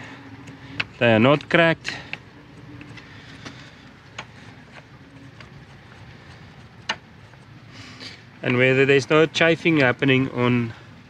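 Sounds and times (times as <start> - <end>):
rope clutches clicking and knocking: 0.0 - 10.3
faint steady hum: 0.0 - 11.0.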